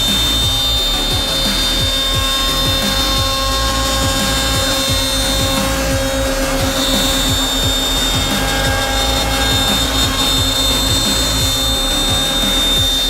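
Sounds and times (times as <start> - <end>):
woodworking machine whining: 0.0 - 13.0.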